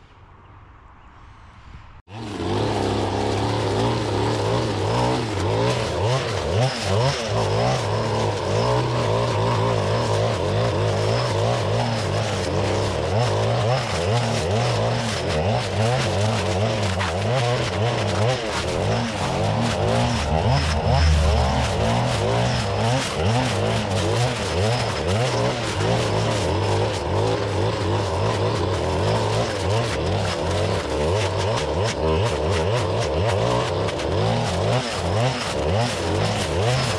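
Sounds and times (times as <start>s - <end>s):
clearing saw engine at high revs: 2.1s - 36.9s.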